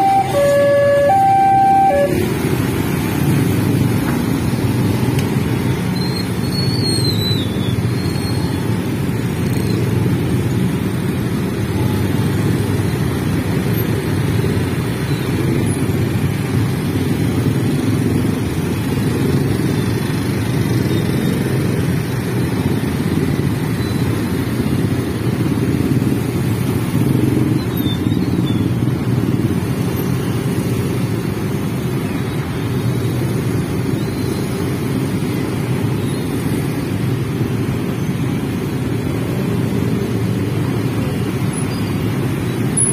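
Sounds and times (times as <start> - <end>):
motorcycle engines droning: 0.0 - 42.9.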